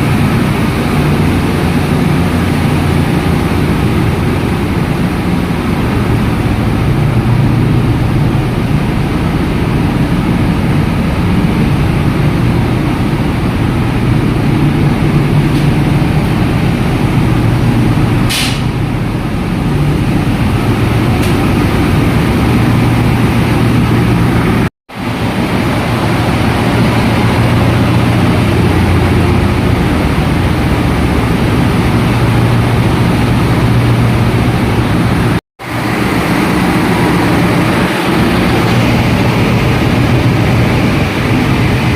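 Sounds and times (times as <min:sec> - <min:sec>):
engine-room machinery din: 0:00.0 - 0:41.9.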